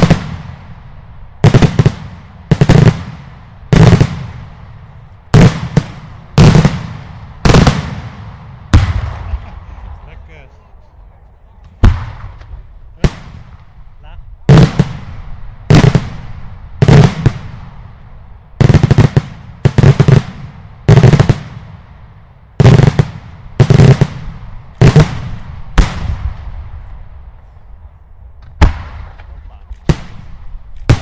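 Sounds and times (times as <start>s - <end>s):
rolling echo: 0.0s - 31.0s.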